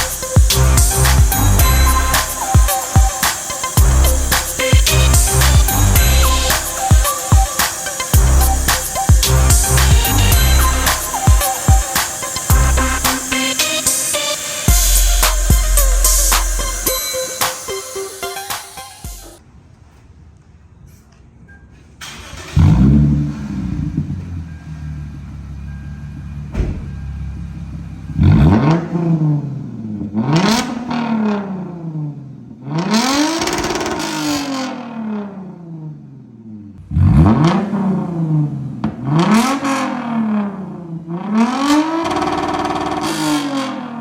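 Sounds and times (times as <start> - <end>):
car engine starting and revving: 0.0 - 16.9, 22.0 - 44.0.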